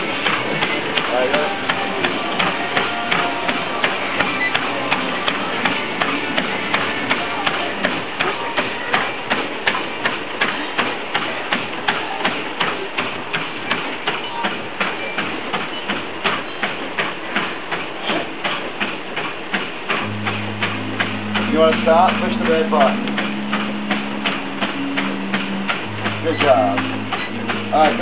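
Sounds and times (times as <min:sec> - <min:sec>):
feet thumping on treadmill belt: 0:00.0 - 0:28.0
treadmill belt and motor hum: 0:00.0 - 0:28.0.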